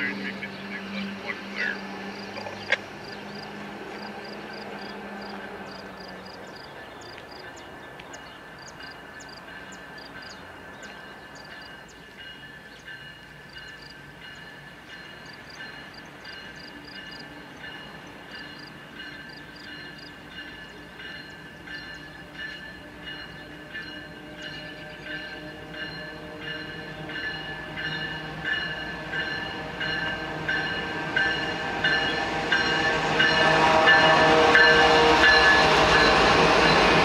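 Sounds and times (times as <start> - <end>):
railcars rolling past: 0.0 - 37.0.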